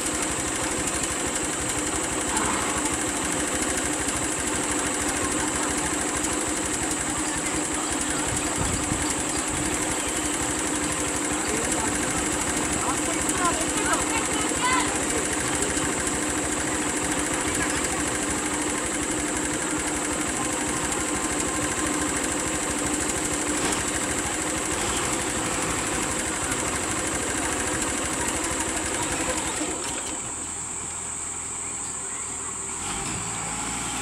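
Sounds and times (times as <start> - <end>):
diesel bus engine idling: 0.0 - 34.0.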